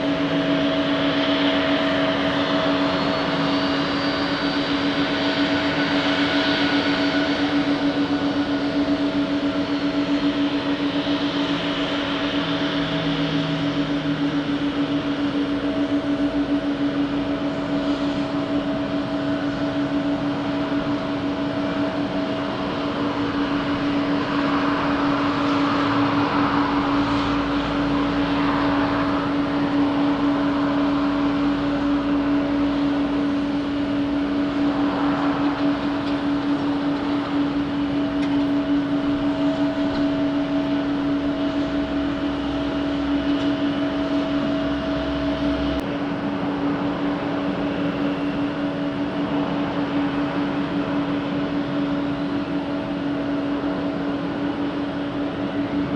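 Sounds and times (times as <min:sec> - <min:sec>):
jet engines droning: 0:00.0 - 0:55.9.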